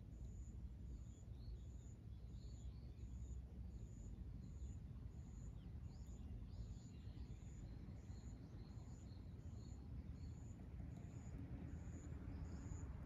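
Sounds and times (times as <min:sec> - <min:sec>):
faint low background noise: 0:00.0 - 0:13.0.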